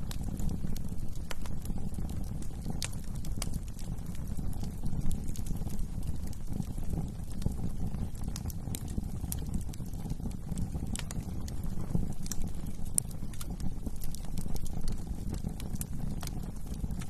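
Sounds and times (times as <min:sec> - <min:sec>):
burning wood crackling: 0:00.0 - 0:17.0
fire flames rumbling: 0:00.0 - 0:17.0.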